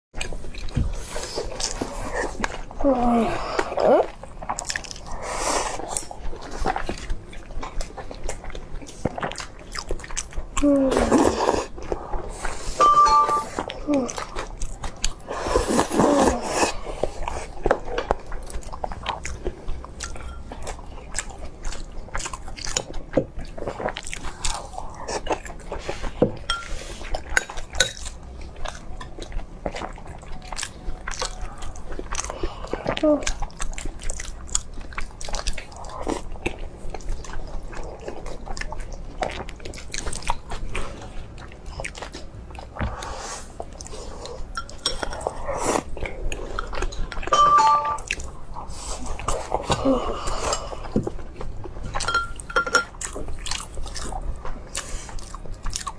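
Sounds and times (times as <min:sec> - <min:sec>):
person chewing crunchy food: 0:00.2 - 0:55.9.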